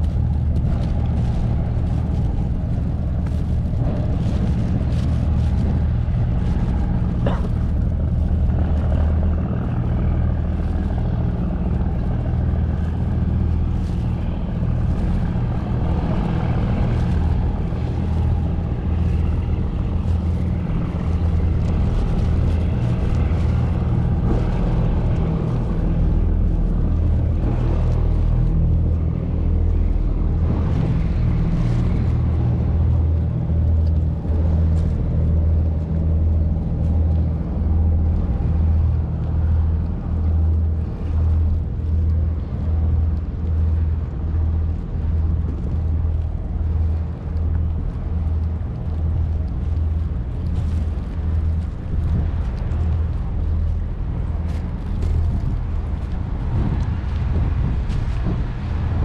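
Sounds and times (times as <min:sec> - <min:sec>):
loud low engine drone: 0:00.0 - 0:59.0.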